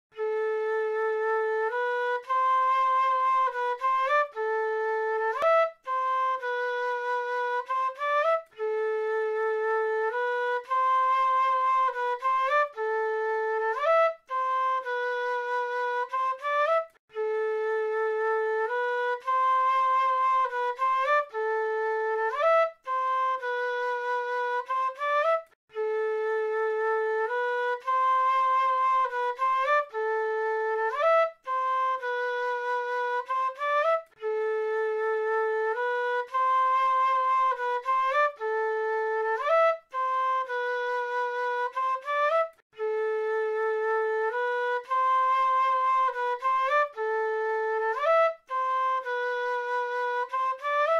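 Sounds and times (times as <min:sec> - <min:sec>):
flute melody: 0:00.1 - 0:50.9.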